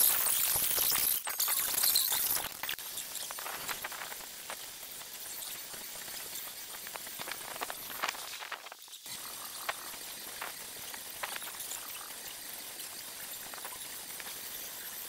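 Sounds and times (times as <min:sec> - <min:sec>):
small clicks and ticks: 0:00.0 - 0:15.0.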